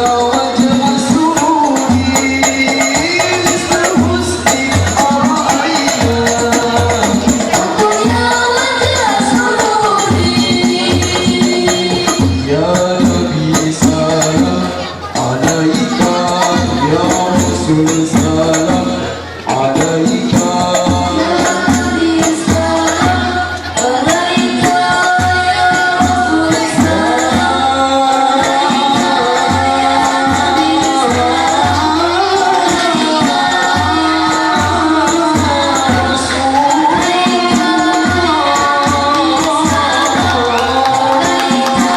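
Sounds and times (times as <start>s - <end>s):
frame drums beating: 0.0s - 41.9s
voices singing together: 0.0s - 41.9s.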